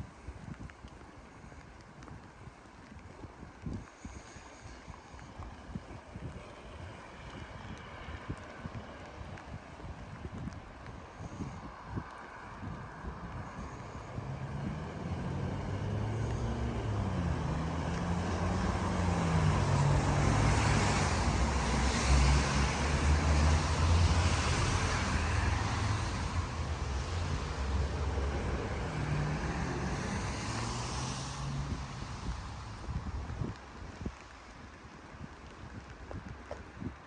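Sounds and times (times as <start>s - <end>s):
tyres hissing on wet road: 0.0s - 37.0s
vehicle engine hum: 0.1s - 36.8s.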